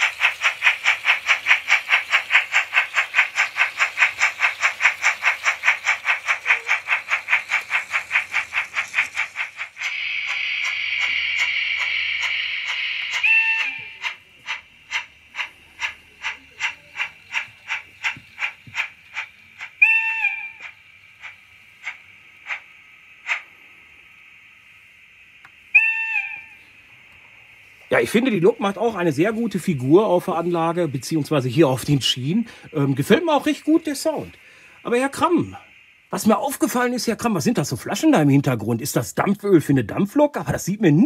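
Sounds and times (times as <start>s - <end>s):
steam hiss: 0.0s - 40.3s
steam locomotive chuffs: 0.0s - 41.0s.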